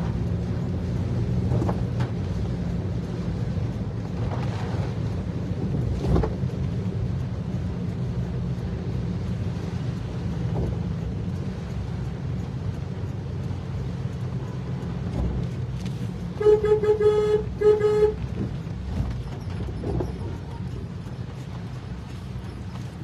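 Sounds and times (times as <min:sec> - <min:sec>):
car tyres rumbling on wet road: 0:00.0 - 0:23.0
rain hissing on windshield: 0:00.0 - 0:23.0.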